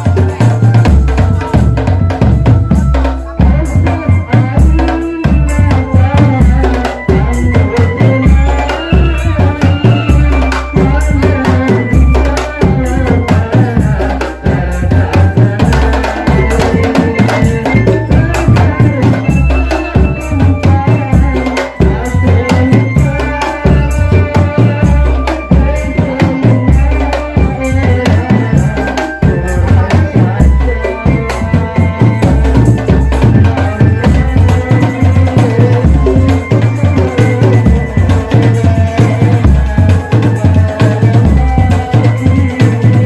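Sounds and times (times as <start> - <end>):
bass drum beat: 0.0 - 43.0
drum band playing: 0.0 - 43.0
rattling percussion: 0.0 - 43.0.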